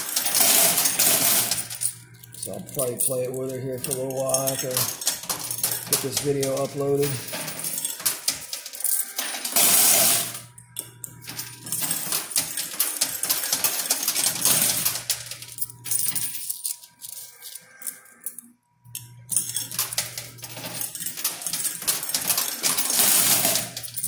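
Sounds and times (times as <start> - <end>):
coins clinking and sliding: 0.0 - 24.0
low machine hum: 0.1 - 24.0.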